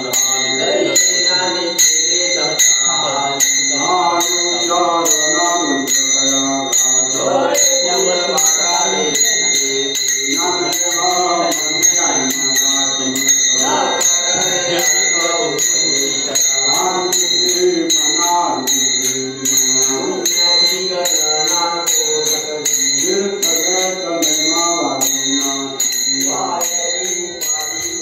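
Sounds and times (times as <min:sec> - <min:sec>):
hand cymbals ringing: 0:00.0 - 0:28.0
men singing devotional song: 0:00.0 - 0:28.0.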